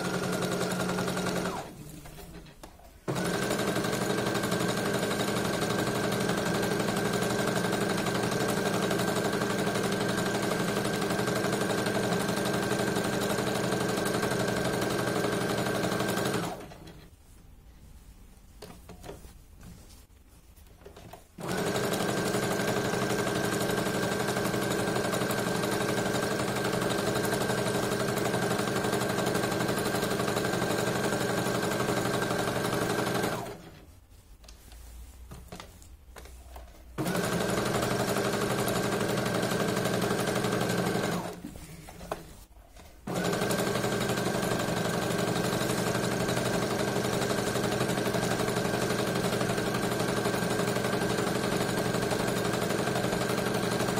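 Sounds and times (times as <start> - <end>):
sewing machine running: 0.0 - 1.7, 3.1 - 17.0, 21.4 - 33.8, 37.0 - 41.4, 43.1 - 53.9.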